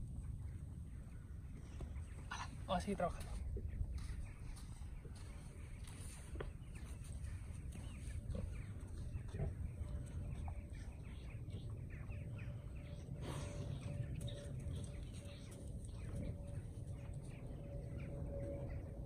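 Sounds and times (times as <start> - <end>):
birds chirping: 0.0 - 19.0
low steady rumble: 0.0 - 19.0.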